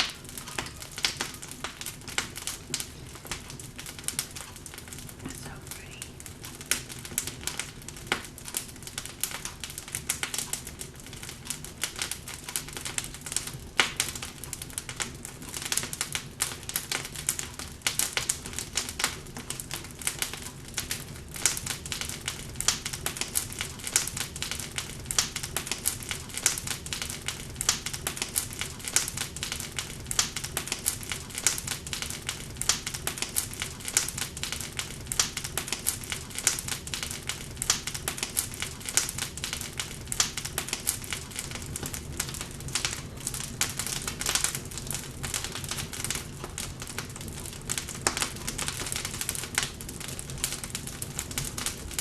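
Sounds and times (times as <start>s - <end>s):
low rumble of flames: 0.0s - 52.0s
wood fire crackling: 0.0s - 52.0s.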